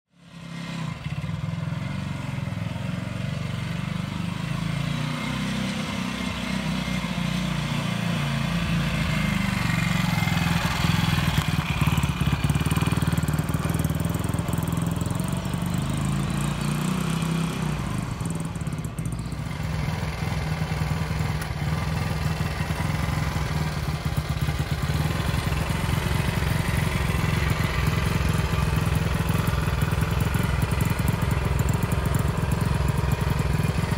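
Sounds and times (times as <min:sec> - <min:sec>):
motorcycle engine running: 0:00.2 - 0:33.9.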